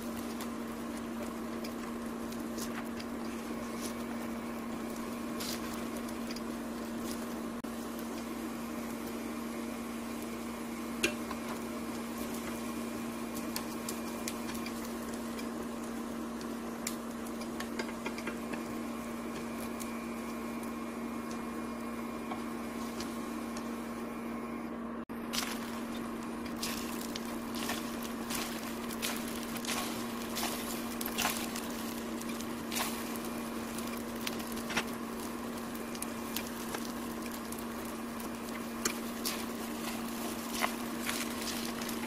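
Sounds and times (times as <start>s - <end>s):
sausage sizzling in frying pan: 0.0s - 24.0s, 25.2s - 42.0s
electrical hum: 0.0s - 42.0s.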